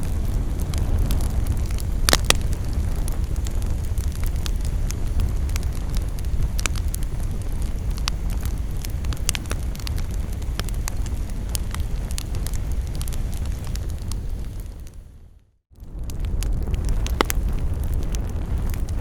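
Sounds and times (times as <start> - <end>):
campfire crackling: 0.0 - 15.2, 15.8 - 19.0.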